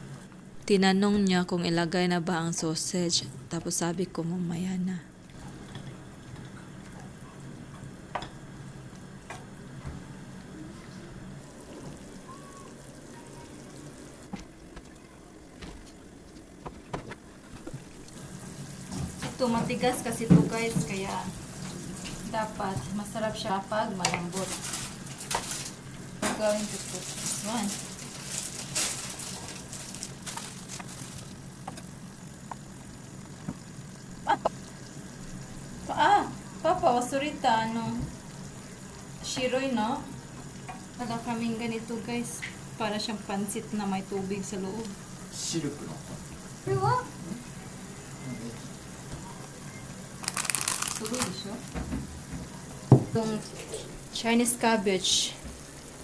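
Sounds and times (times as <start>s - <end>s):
background cooking noise: 0.0s - 56.0s
food sizzling in a pot: 5.3s - 14.4s, 17.8s - 56.0s.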